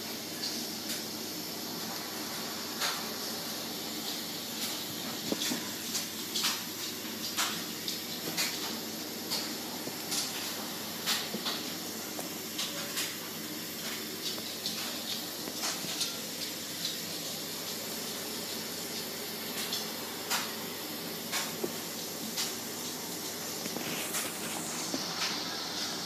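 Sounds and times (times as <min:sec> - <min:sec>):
heavy snow falling hiss: 0:00.0 - 0:07.8, 0:08.7 - 0:26.0.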